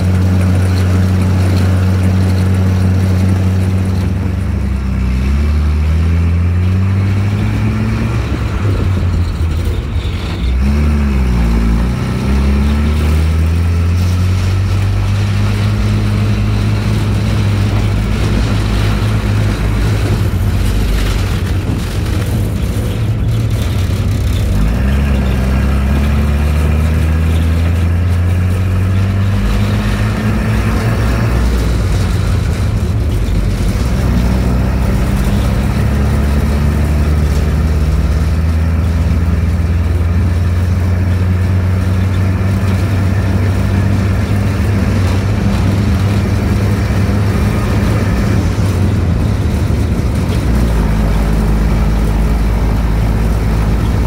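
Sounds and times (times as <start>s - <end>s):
vehicle engine accelerating: 0.0s - 54.0s.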